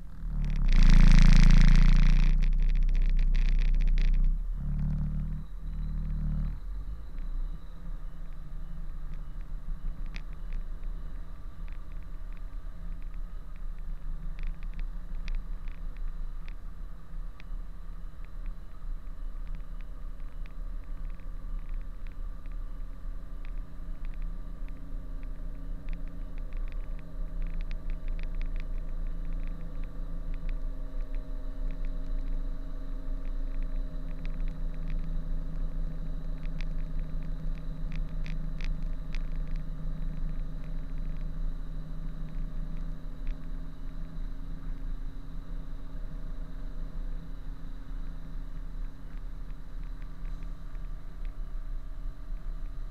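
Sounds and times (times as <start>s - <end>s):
faint ticks: 0.0s - 52.9s.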